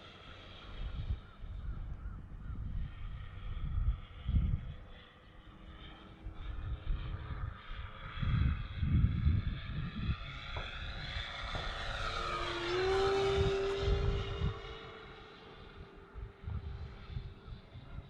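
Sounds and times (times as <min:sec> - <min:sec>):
model aircraft engine drone: 0:00.0 - 0:18.0
wind buffeting microphone: 0:00.6 - 0:18.0.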